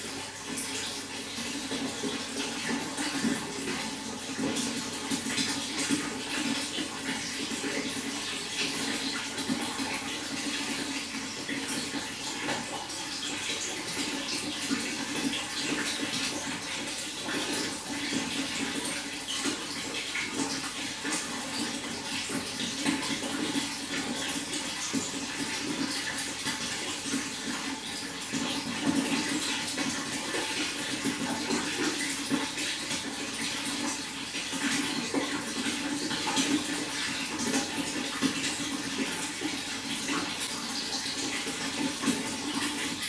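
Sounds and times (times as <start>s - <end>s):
running water rushing: 0.0s - 43.0s
water splashes and drips: 0.0s - 43.0s.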